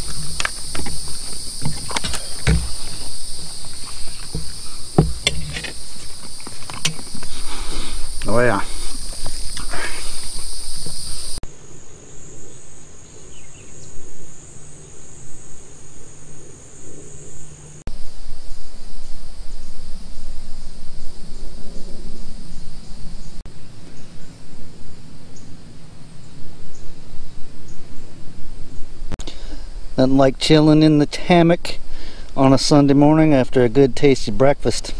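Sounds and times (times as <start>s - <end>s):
high-pitched insect trill: 0.0s - 31.6s.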